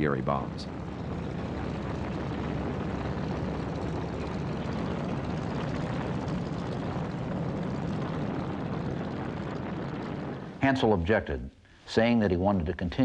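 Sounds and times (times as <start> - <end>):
propeller engines running: 0.0 - 10.8.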